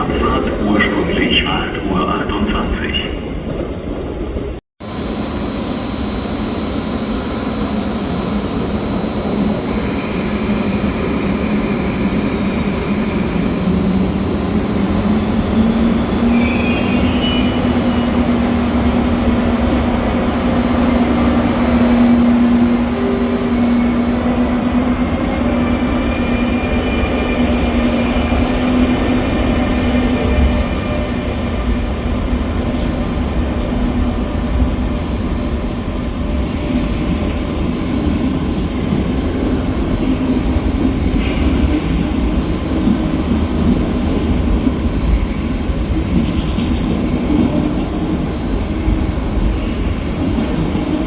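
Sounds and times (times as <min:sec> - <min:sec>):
train rumbling with high whine: 0:00.0 - 0:51.0
train wheel squeals: 0:04.9 - 0:51.0.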